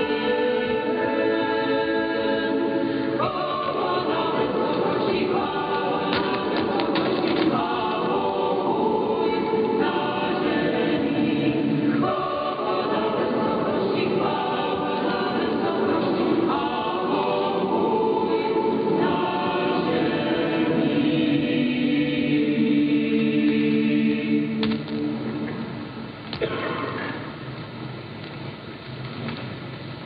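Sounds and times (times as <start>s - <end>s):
church choir singing a hymn: 0.0s - 25.5s.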